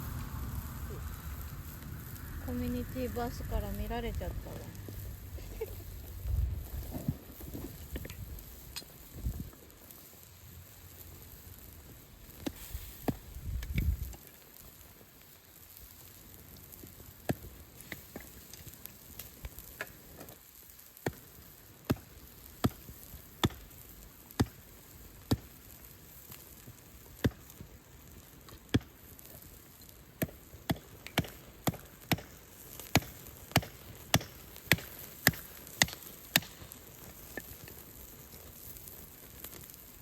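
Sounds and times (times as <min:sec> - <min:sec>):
meat sizzling: 0:00.0 - 0:40.0
wood fire crackling pops: 0:00.0 - 0:40.0.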